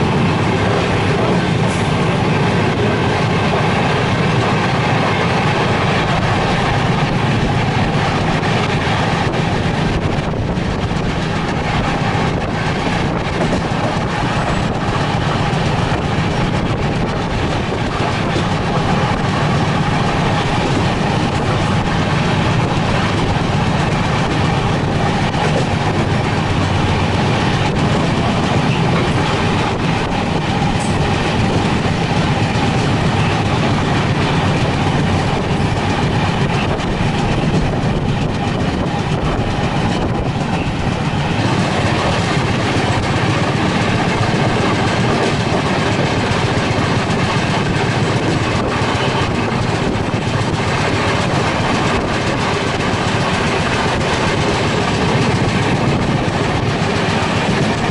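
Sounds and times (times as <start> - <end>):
train coach rumbling and rattling: 0.0 - 57.9
wheels clicking over rail joints: 0.0 - 57.9.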